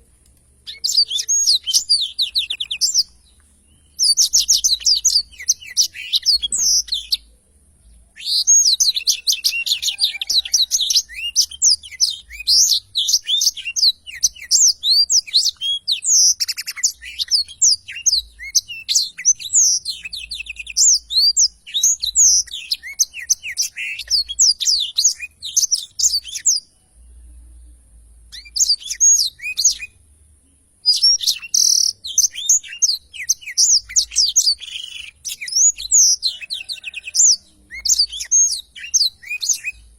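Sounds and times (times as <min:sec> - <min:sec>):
canary singing trills: 0:00.6 - 0:39.9.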